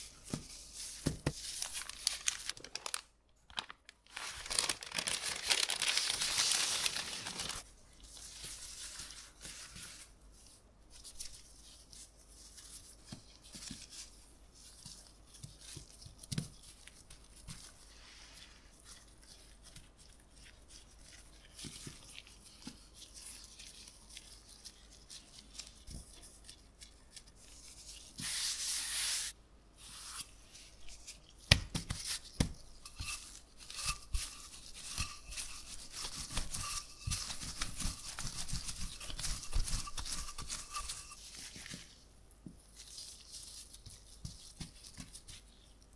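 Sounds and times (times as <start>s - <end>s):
hands rubbing dough: 0.0s - 2.4s, 4.1s - 45.9s
parchment paper crinkling: 0.0s - 42.0s, 42.6s - 45.8s.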